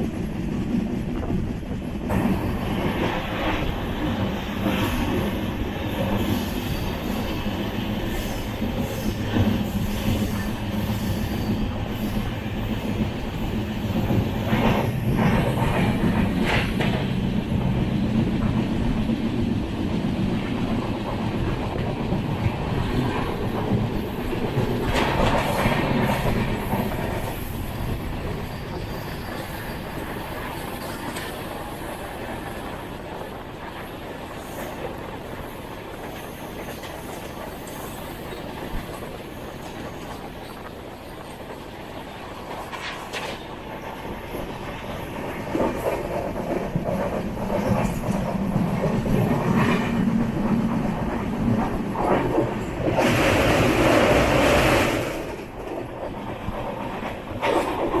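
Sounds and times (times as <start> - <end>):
train rumbling on track: 0.0 - 58.0
train wheels clattering: 0.0 - 58.0.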